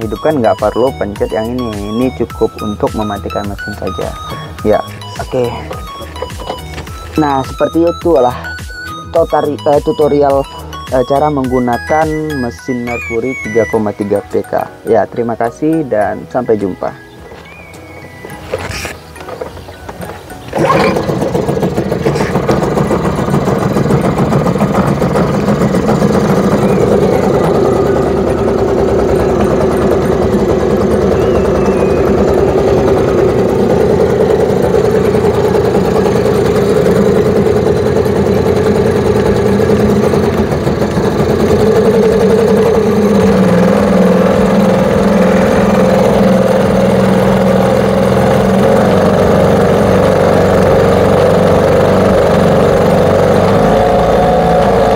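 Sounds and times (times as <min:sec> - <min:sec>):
outboard motor running: 0:00.0 - 0:54.9.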